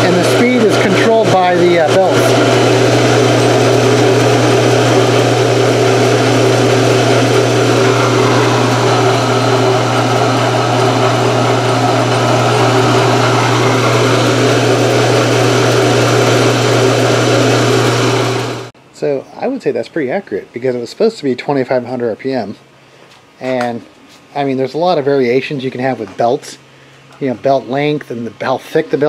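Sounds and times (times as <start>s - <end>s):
mill spindle hum and whine: 0.0s - 29.0s.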